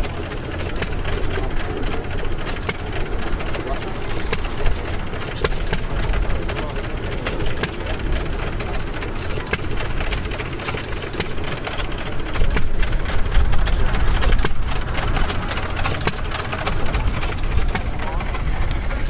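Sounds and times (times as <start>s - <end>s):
old gas engines running: 0.0s - 19.0s.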